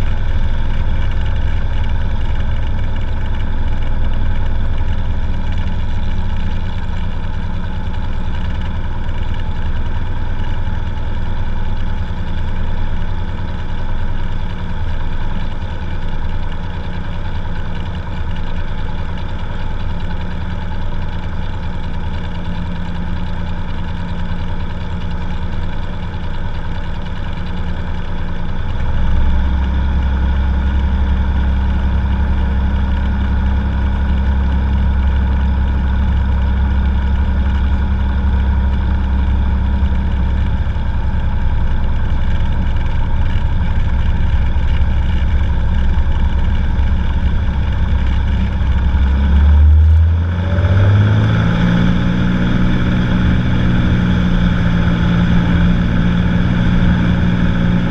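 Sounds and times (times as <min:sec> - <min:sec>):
propeller plane engine running: 0:00.0 - 0:57.9.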